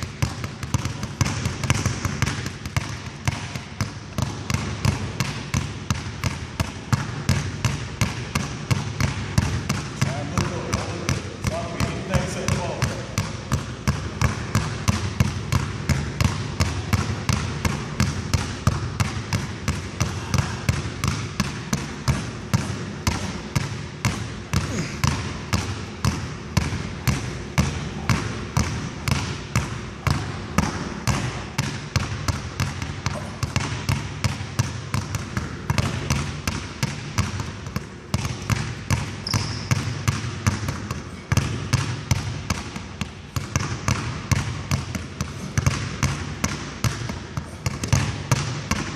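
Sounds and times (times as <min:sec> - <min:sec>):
basketballs bouncing on hardwood: 0:00.0 - 0:48.9.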